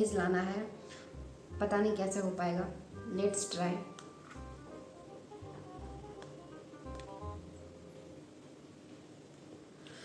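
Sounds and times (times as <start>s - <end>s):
soft held music notes: 0.0s - 10.0s.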